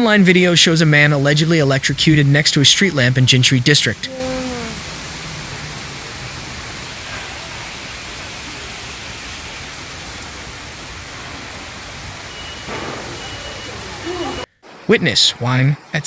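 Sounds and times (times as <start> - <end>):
heavy rain: 0.0 - 14.8.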